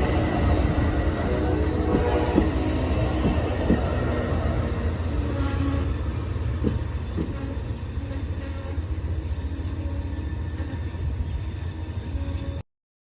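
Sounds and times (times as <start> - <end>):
passenger train rumbling on track: 0.0 - 12.6.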